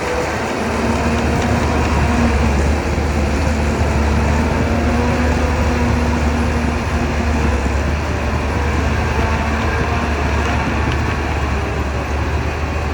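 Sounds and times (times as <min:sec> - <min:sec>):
bulldozer diesel engine droning: 0:00.0 - 0:12.9
dense mechanical noise: 0:00.0 - 0:12.9.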